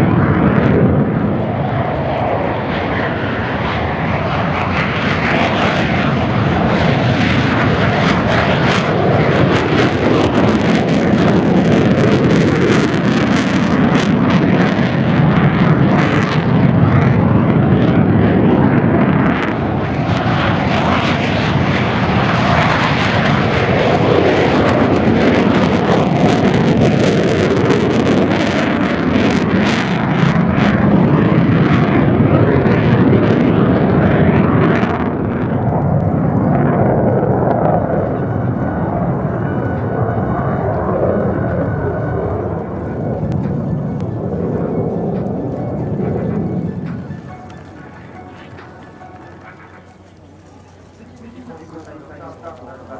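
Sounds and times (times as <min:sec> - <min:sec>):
jet fighters flying by: 0:00.0 - 0:52.9.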